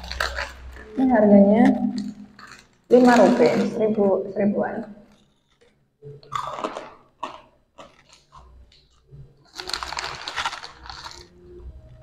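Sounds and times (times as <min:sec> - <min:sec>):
crunchy snack being chewed: 0:00.0 - 0:00.9, 0:01.9 - 0:03.8, 0:05.1 - 0:12.0.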